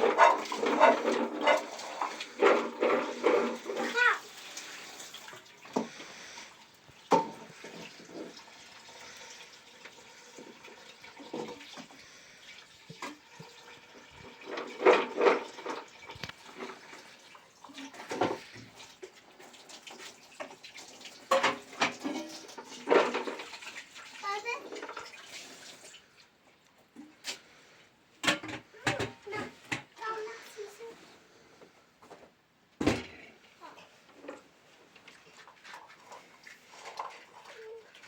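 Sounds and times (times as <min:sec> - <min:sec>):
water running and splashing: 0:00.0 - 0:27.7, 0:33.6 - 0:38.0.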